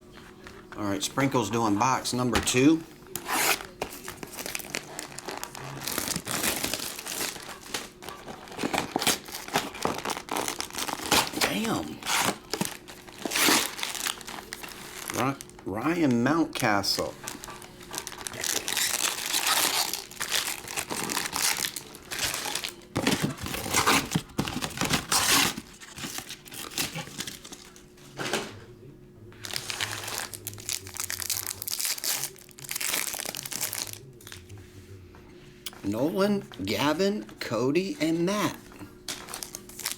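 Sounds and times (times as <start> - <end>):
card pack wrappers crinkling: 1.5 - 27.9, 29.4 - 34.4, 39.0 - 39.9.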